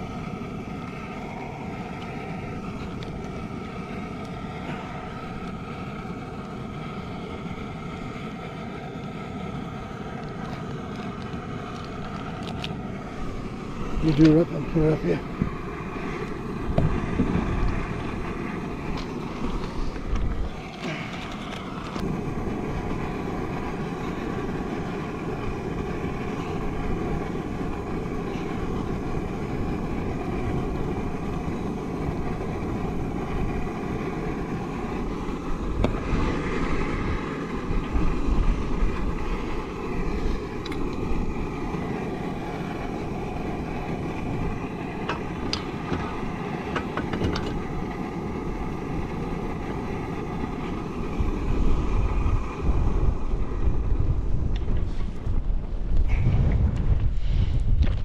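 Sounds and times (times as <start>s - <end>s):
drone propellers whining: 0.0s - 58.0s
rushing wind noise: 0.0s - 58.0s.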